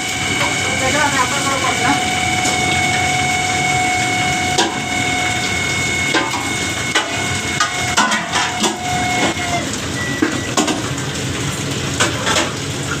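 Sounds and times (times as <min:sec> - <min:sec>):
microwave fan motor whining: 0:00.0 - 0:11.9.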